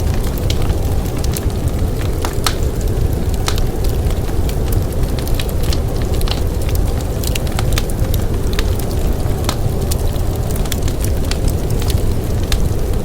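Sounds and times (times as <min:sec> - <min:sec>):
deep rumble: 0:00.0 - 0:13.0
wood fire crackling: 0:00.0 - 0:13.0.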